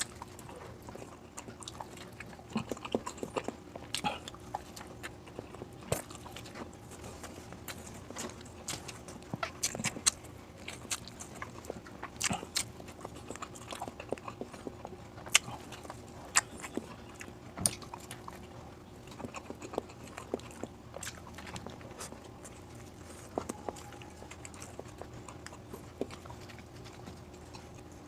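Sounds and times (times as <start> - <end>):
person chewing: 0.0 - 28.0.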